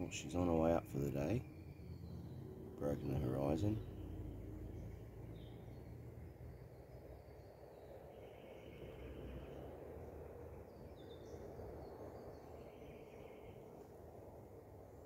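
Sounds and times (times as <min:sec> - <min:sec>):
distant birds calling: 0:00.0 - 0:15.0
low background noise: 0:00.0 - 0:15.0.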